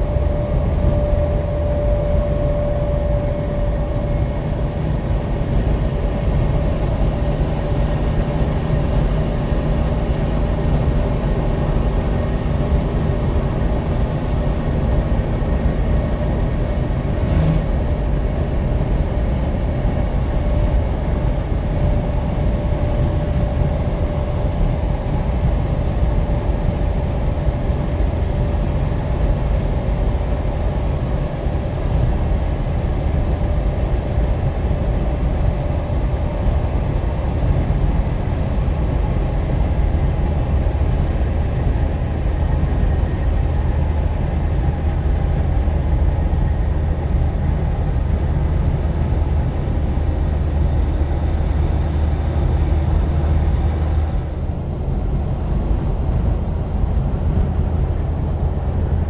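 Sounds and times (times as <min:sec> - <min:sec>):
car highway driving noise: 0:00.0 - 0:59.0.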